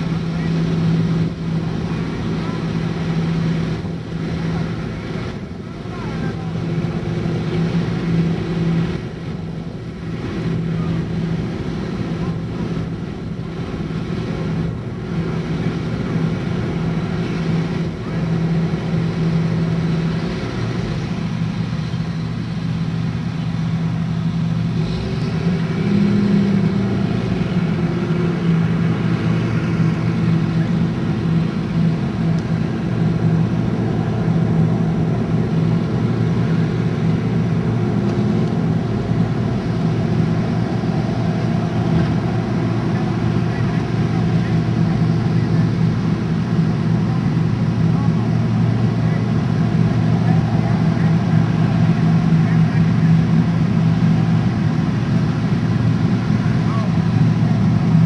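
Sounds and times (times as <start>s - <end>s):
combine harvester droning: 0.0s - 58.0s.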